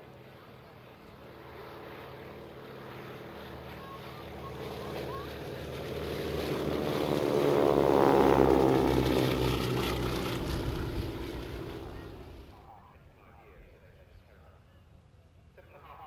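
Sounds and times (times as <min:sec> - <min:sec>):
biplane engines droning past: 0:00.0 - 0:16.0.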